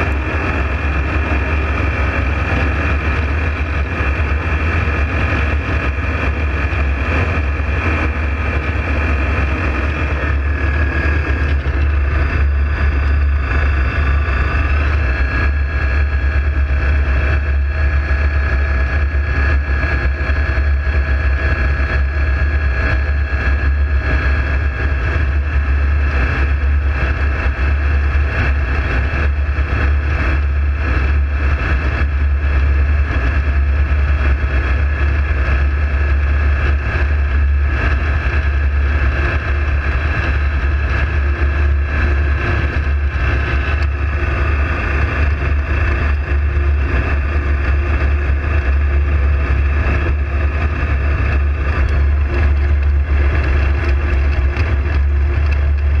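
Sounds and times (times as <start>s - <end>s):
ultralight aircraft engine drone: 0.0s - 56.0s.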